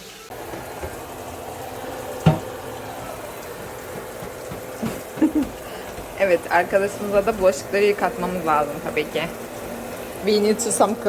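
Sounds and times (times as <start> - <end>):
tap water running into sink: 0.0 - 11.0
dish clattering: 0.3 - 10.9.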